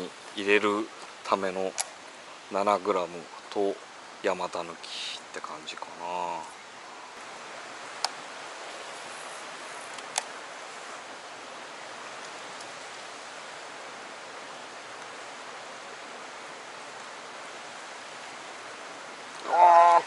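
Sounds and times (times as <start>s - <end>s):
stream rushing over rock: 0.0s - 20.0s.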